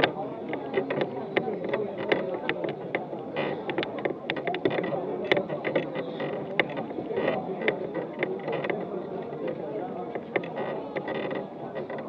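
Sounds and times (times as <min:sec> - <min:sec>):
murmured voices: 0:00.0 - 0:12.0
sharp clicks and knocks: 0:00.0 - 0:12.0.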